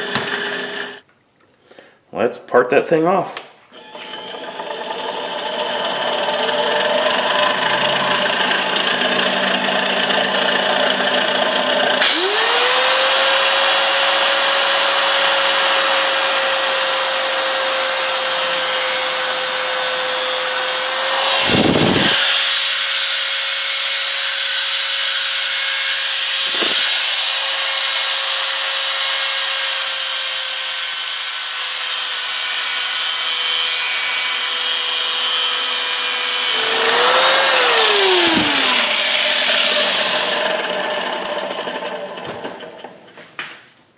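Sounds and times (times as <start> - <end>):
angle grinder cutting metal: 0.0 - 1.0, 3.8 - 42.9
metal lathe running: 3.8 - 30.0, 33.0 - 43.0.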